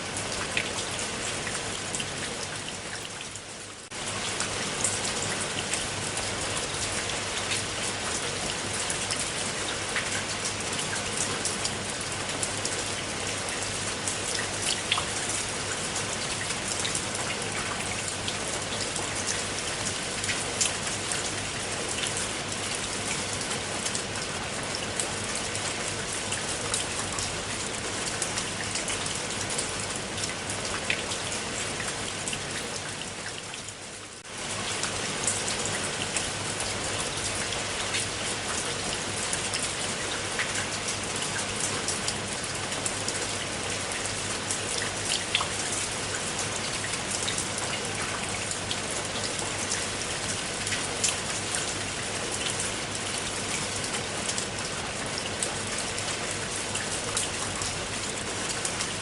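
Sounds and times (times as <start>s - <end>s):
raindrops ticking on a surface: 0.0s - 59.0s.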